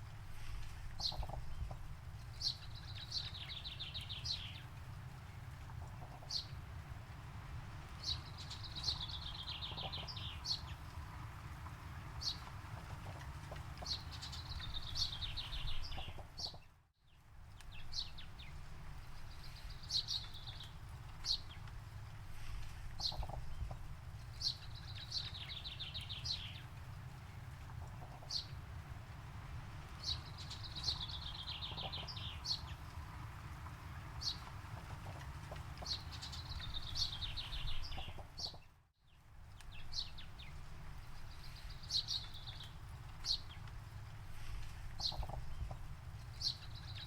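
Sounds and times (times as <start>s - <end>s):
steady low rumble: 0.0s - 16.5s, 17.3s - 38.6s.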